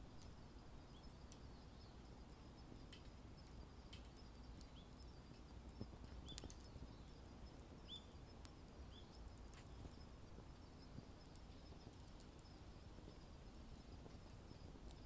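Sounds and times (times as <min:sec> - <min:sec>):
campfire crackling faintly: 0:00.0 - 0:15.0.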